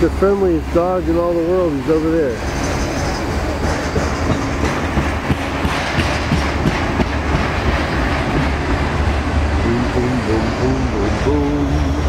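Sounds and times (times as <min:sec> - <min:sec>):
freight train rumbling past: 0:00.0 - 0:12.0
train wheels clacking on rails: 0:00.0 - 0:12.0.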